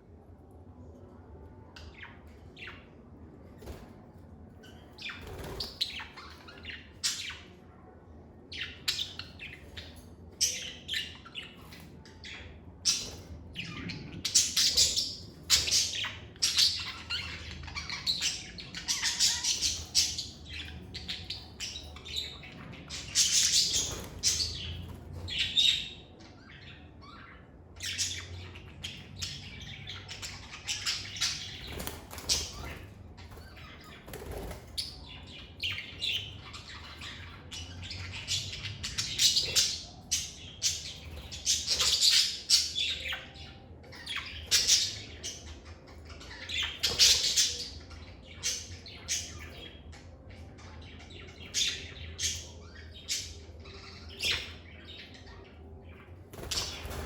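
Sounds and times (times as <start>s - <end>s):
lovebirds chirping and squawking: 1.6s - 57.0s.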